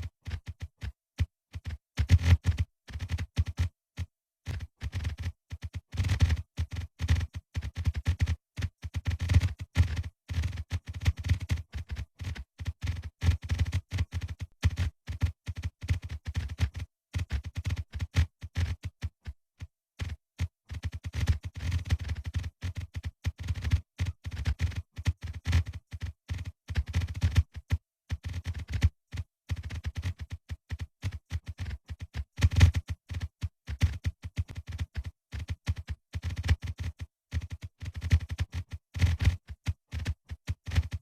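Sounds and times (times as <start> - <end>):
rapid short clicks: 0.0 - 41.0.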